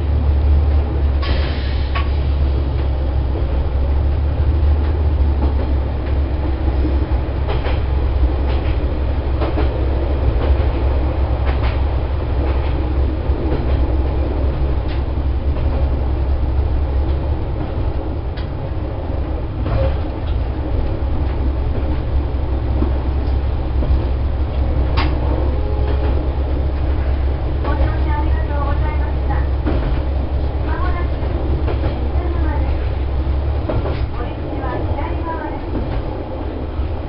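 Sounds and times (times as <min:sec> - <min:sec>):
railcar engine rumble: 0:00.0 - 0:37.0.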